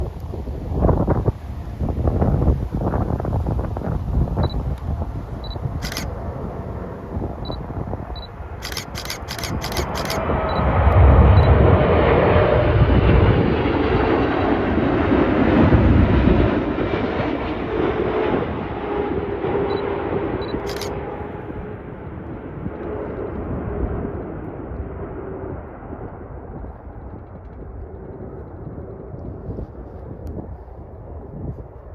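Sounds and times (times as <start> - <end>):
faint jet engine whine: 0.0 - 31.9
jet engine rumble: 0.0 - 31.9.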